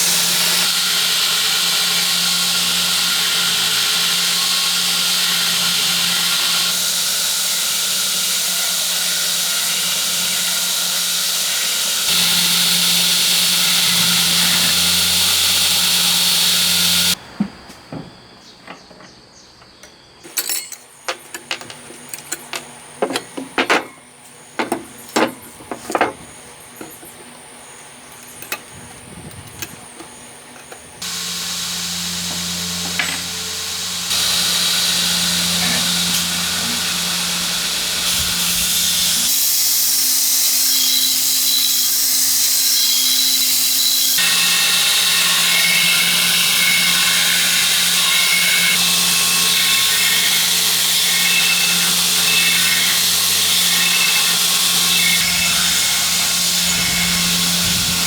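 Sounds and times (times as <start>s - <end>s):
workshop machine hissing and humming: 0.0s - 17.2s, 21.0s - 58.0s.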